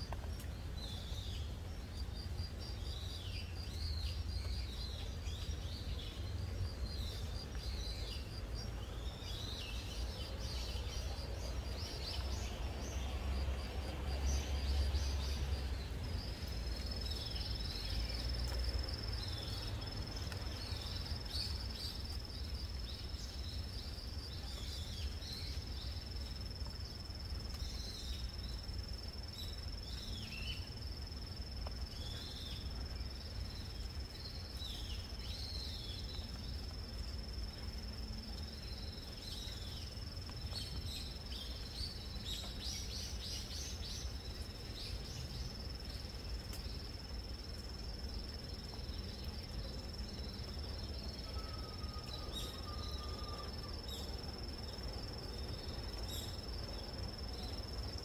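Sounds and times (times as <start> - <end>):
insect trill: 0.0 - 58.0.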